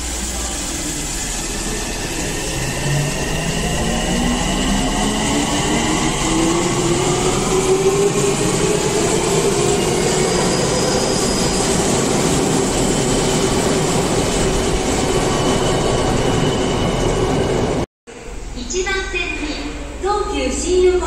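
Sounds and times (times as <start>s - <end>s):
train traction motor whine: 0.0s - 17.8s.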